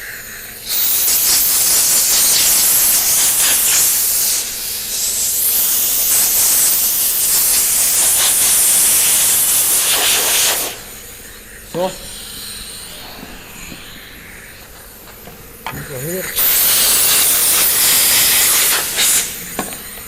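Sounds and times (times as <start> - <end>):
compressed air blow gun hissing: 0.7 - 20.0.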